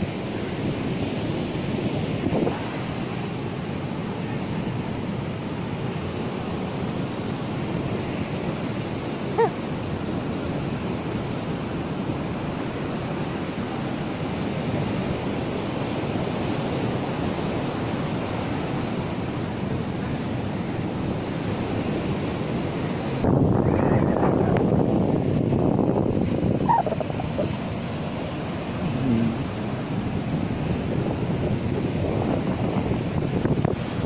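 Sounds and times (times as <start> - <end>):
sea surf breaking: 0.0 - 34.0
wind on microphone: 0.0 - 34.0.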